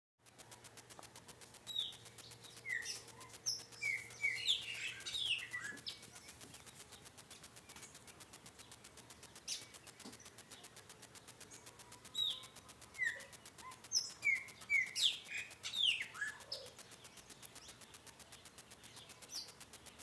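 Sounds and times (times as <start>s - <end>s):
birds chirping: 0.7s - 20.0s.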